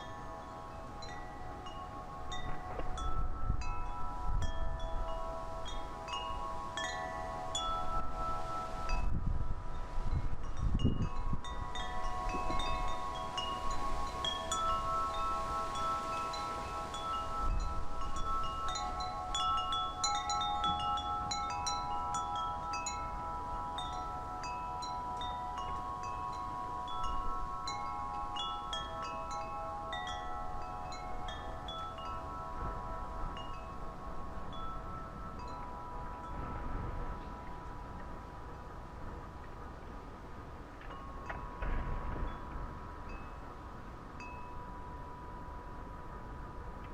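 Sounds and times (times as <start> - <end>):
wind buffeting microphone: 0.0 - 46.9
wind chimes ringing: 0.0 - 46.9.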